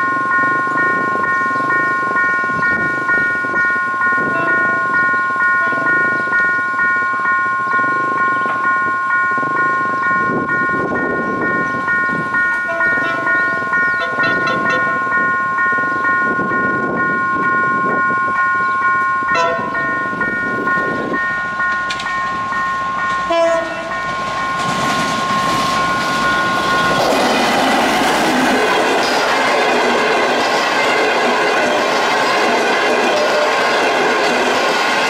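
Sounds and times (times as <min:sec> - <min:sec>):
diesel train passing: 0:00.0 - 0:35.0
level crossing bell ringing: 0:00.0 - 0:35.0.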